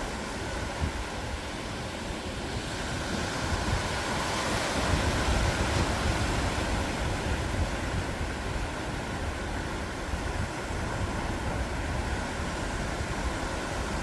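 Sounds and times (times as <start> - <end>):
ocean waves on a beach: 0.0 - 14.0
wind rumbling on microphone: 0.0 - 14.0.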